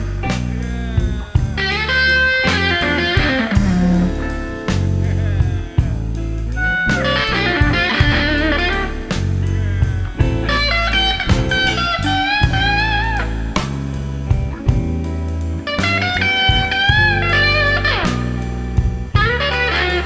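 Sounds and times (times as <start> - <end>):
bass and drums: 0.0 - 20.0
electric blues guitar: 0.0 - 20.0.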